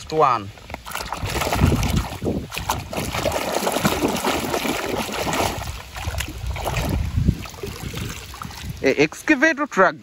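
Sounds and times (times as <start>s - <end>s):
water splashing and sloshing: 0.0s - 9.4s.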